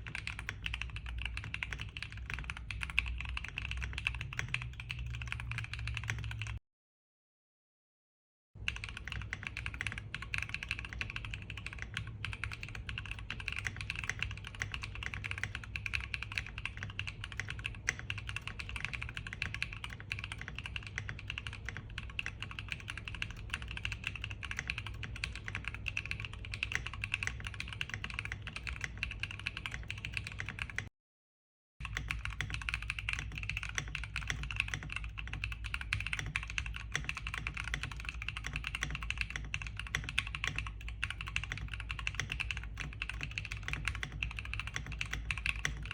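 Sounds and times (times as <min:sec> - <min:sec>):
fast mechanical keyboard typing: 0:00.0 - 0:06.6, 0:08.6 - 0:30.9, 0:31.8 - 0:45.9.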